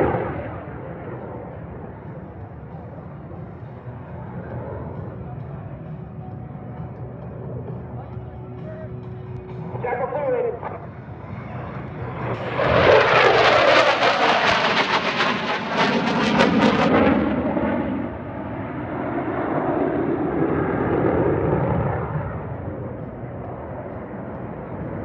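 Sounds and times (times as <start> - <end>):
jet fighter roaring overhead: 0.0 - 25.0.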